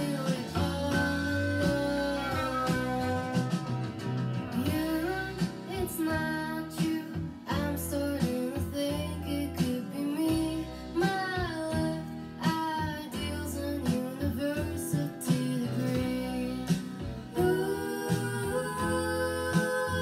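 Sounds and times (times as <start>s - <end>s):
song over loudspeakers: 0.0s - 20.0s.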